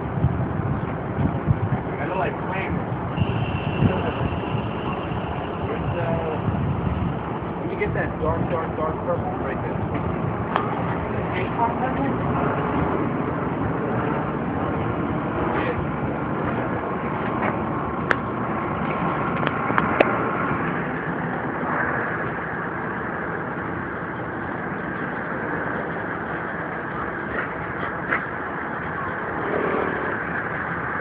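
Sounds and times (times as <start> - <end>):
street traffic hum: 0.0 - 31.0.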